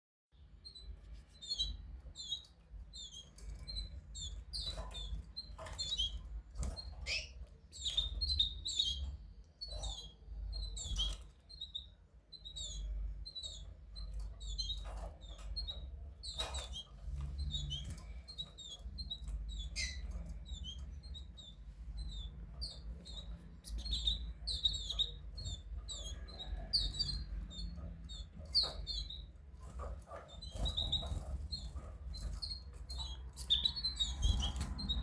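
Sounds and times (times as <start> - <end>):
finches twittering: 0.7 - 35.0.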